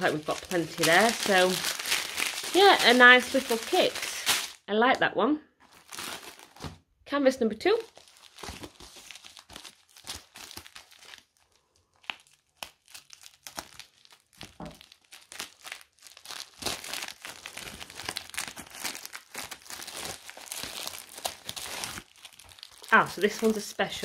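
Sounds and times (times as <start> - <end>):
plastic packaging crinkling: 0.0 - 4.6, 5.6 - 6.8, 7.7 - 24.0.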